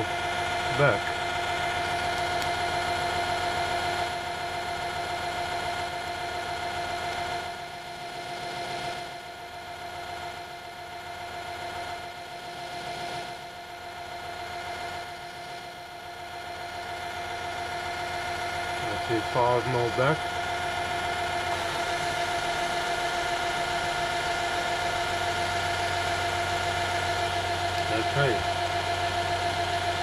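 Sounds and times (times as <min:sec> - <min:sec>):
metal lathe humming and whining: 0:00.0 - 0:30.0.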